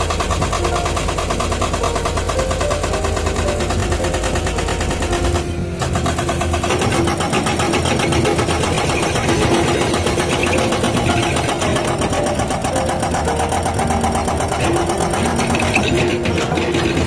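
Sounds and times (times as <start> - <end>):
diesel engine under load: 0.0 - 17.0
hydraulic breaker hammering rock: 0.0 - 17.0.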